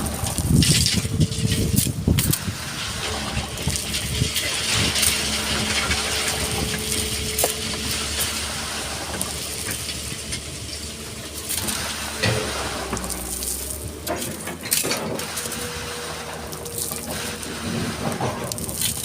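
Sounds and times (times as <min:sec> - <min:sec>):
excavator engine humming: 0:00.0 - 0:19.0
gritty scraping of sand: 0:00.0 - 0:19.0.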